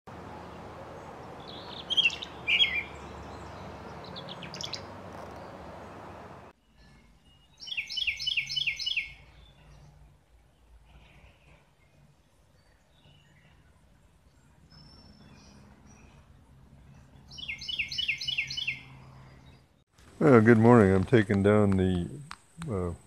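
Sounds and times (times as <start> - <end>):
bird chirping: 0.1 - 19.8
outdoor background noise: 0.1 - 23.0.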